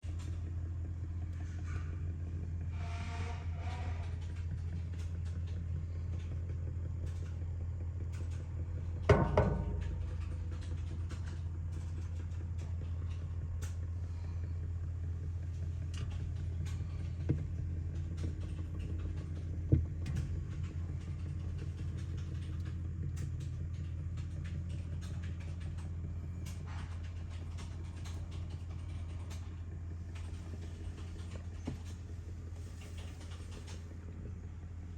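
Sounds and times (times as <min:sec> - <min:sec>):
motor humming: 0:00.1 - 0:34.9.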